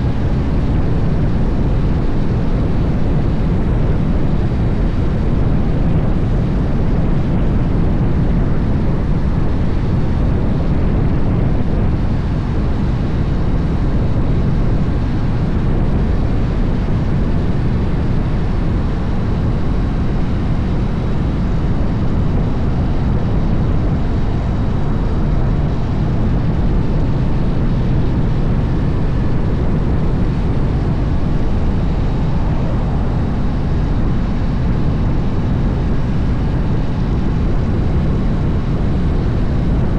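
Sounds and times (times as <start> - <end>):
motorcycle engine rumble: 0.0 - 39.8
rushing wind: 0.0 - 39.9.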